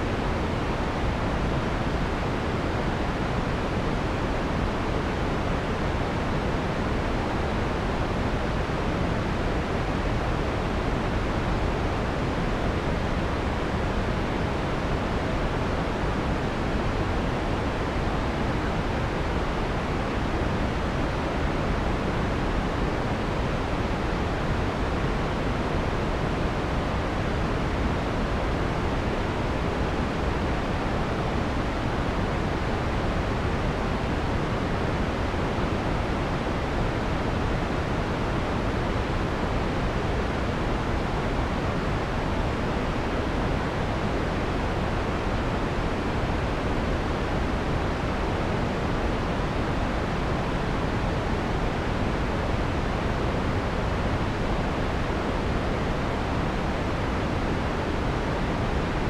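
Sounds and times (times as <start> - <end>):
soft white noise: 0.0 - 59.0.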